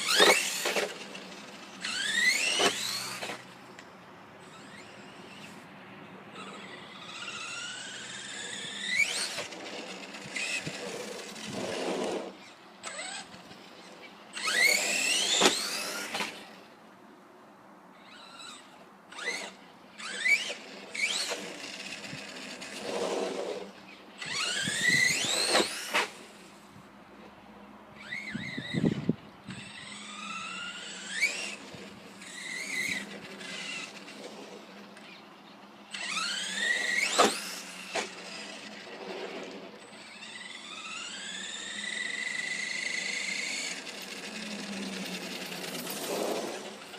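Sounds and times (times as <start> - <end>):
electric motor whining: 0.0 - 3.5, 6.3 - 16.6, 18.0 - 26.4, 28.0 - 46.9.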